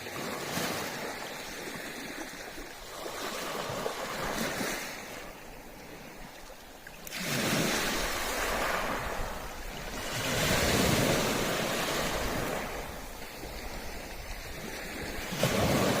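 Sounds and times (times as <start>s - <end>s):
sea waves breaking on beach: 0.0s - 16.0s.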